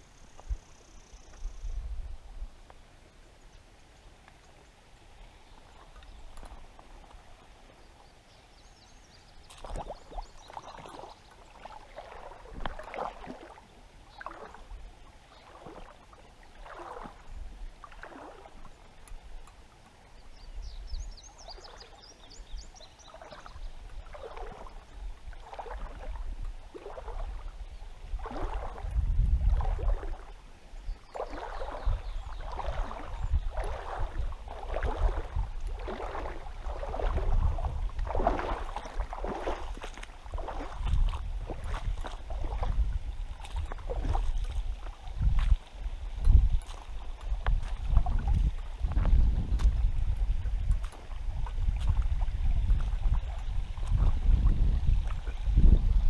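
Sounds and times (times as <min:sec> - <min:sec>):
water splashing around wading legs: 0:05.0 - 0:08.2, 0:09.0 - 0:56.0.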